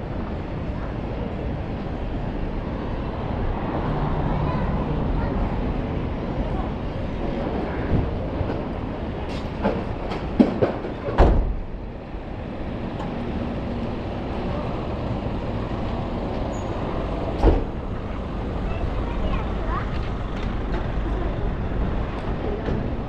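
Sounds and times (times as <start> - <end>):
city street rumble: 0.0 - 23.0.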